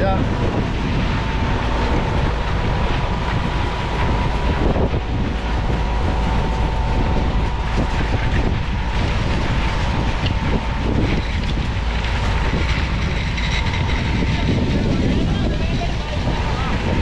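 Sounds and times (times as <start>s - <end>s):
concrete pump machine noise: 0.0s - 17.0s
faint steady whine: 0.0s - 17.0s
wind on microphone: 0.0s - 17.0s.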